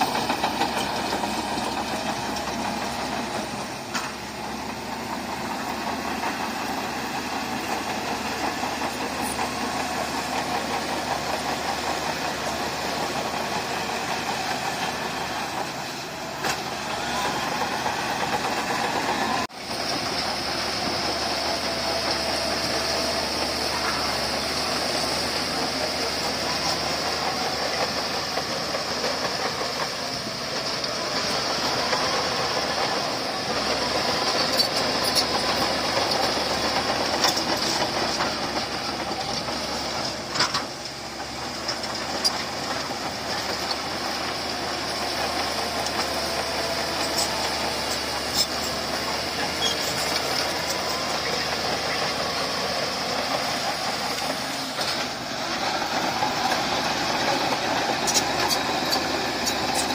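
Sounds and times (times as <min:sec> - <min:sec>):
bulldozer diesel engine: 0:00.0 - 0:59.9
steel tracks clanking: 0:00.0 - 0:59.9.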